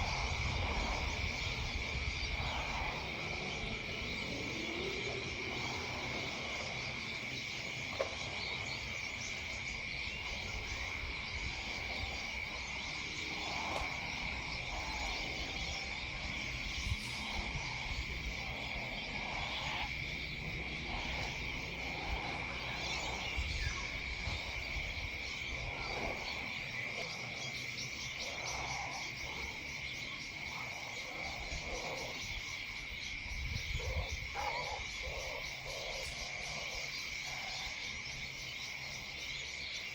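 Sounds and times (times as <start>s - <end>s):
frogs croaking: 0.0s - 39.9s
insect trill: 0.0s - 39.9s.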